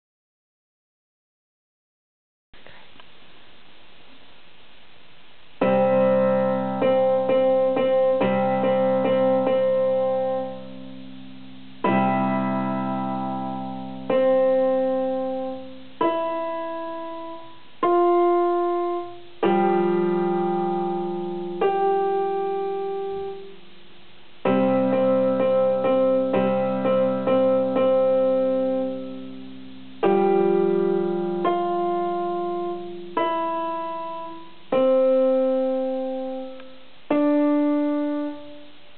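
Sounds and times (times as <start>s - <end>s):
electronic keyboard piano tune: 5.6s - 23.6s, 24.4s - 38.9s.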